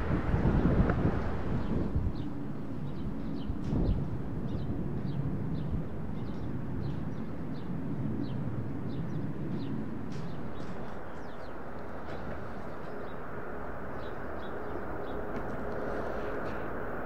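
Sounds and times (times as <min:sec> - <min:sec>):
low outdoor rumble: 0:00.0 - 0:17.0
small birds chirping: 0:00.6 - 0:16.7.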